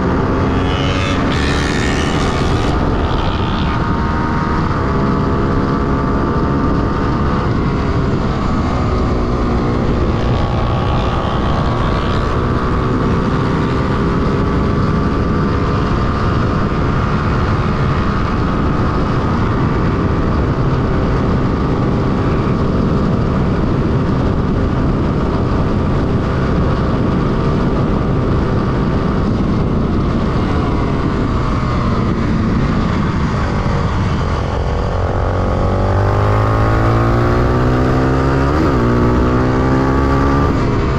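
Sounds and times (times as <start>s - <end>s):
motorcycle engine at high revs: 0.0s - 40.9s.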